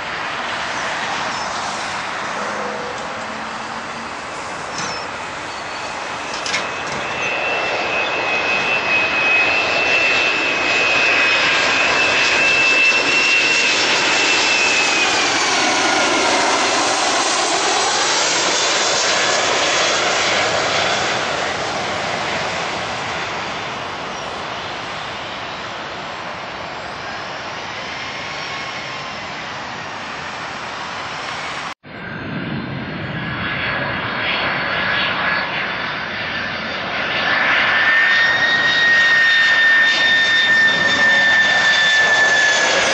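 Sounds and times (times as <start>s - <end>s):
jet airliner passing overhead: 0.0s - 42.9s.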